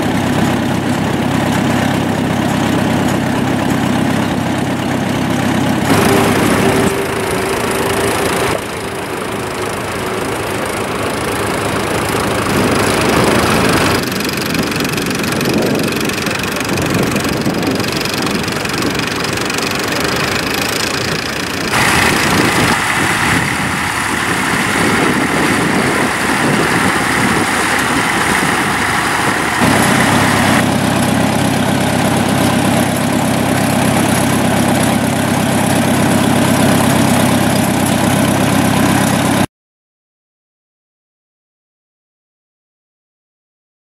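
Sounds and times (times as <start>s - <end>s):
tractor engines running: 0.0s - 39.5s.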